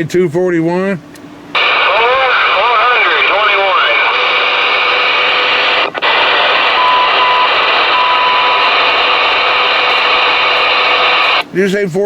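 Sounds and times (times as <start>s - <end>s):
radio static hiss: 1.6s - 11.4s.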